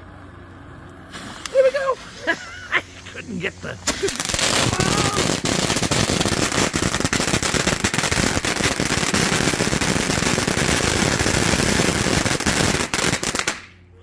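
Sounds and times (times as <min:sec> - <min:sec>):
fountain firework hissing and crackling: 0:01.0 - 0:13.8.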